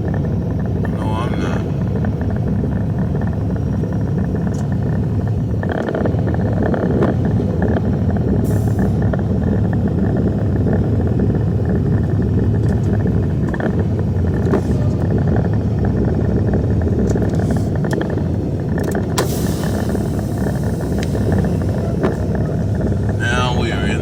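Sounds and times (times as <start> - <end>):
truck engine rumble: 0.0 - 24.0.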